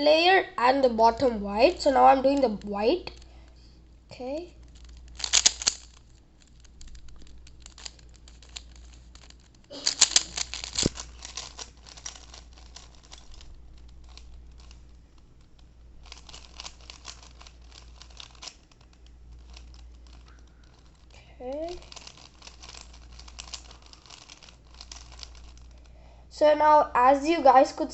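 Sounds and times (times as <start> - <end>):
plastic puzzle cube clicking: 1.7 - 3.6, 4.6 - 26.0.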